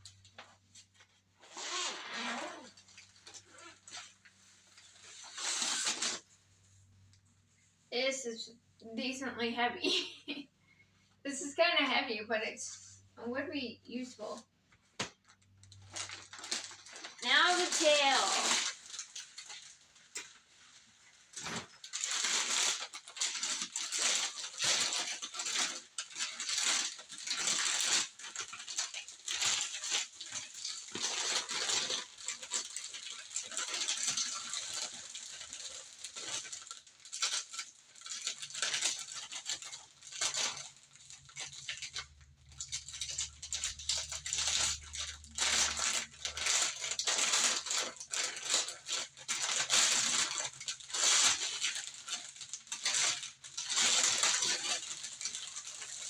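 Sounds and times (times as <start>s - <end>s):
packaging rustling and crinkling: 0.0s - 7.1s, 14.2s - 56.0s.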